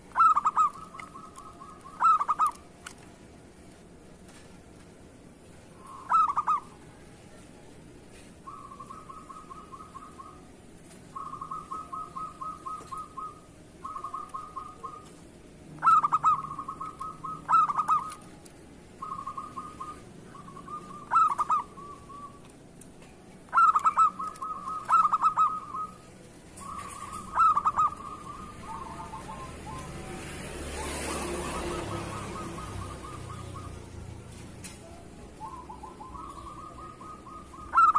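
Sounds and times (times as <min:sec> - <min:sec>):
dove cooing trills: 0:00.0 - 0:03.0, 0:05.7 - 0:37.9.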